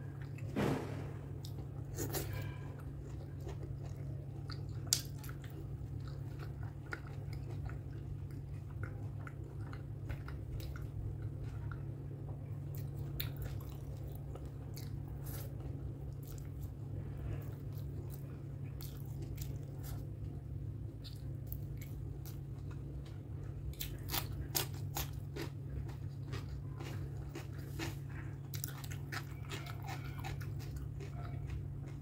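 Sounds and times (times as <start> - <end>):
steady low hum: 0.0 - 32.0
person chewing food: 1.3 - 32.0.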